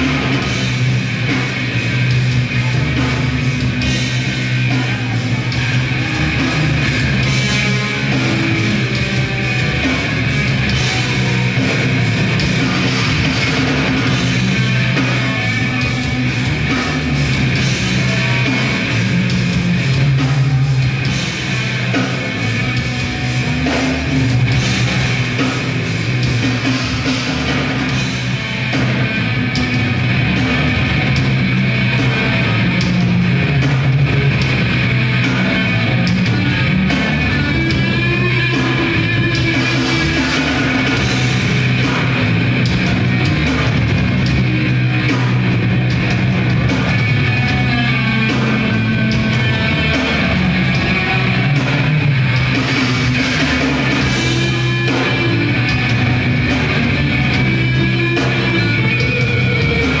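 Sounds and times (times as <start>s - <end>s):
bass guitar: 0.0s - 60.0s
distorted electric guitars: 0.0s - 60.0s
fast dense drumming: 0.0s - 60.0s.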